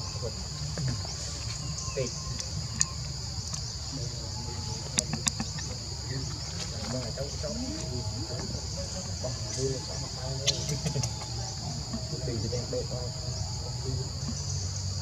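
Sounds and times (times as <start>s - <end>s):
chorus of forest insects: 0.0s - 15.0s.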